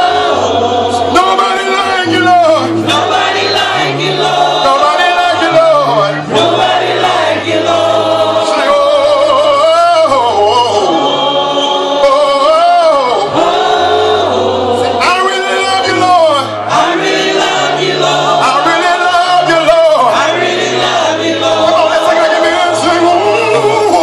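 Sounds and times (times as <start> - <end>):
congregation singing gospel song: 0.0 - 24.0
men singing through loudspeakers: 0.0 - 24.0.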